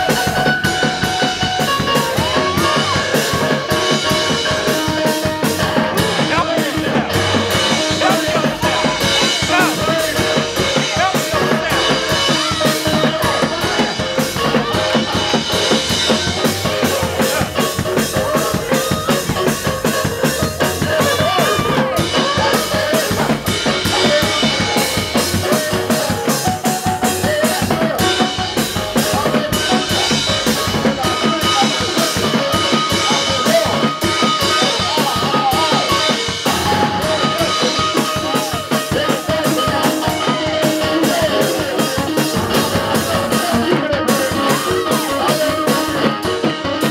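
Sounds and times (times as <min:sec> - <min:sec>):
gospel music with fast drum beat: 0:00.0 - 0:46.9.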